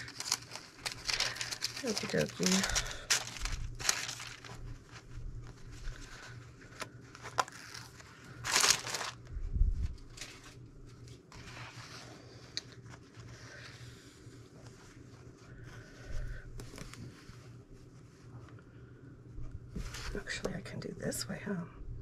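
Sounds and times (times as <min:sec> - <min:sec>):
fabric and paper rustling: 0:00.0 - 0:18.7, 0:19.4 - 0:20.7.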